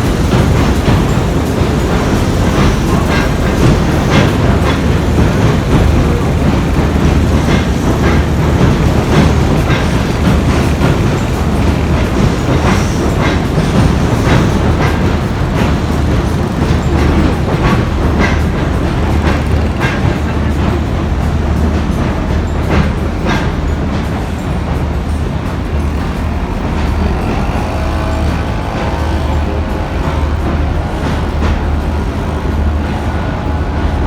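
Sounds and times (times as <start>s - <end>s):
electric train rumbling past: 0.0s - 34.0s
wheels clattering over rail joints: 0.0s - 34.0s.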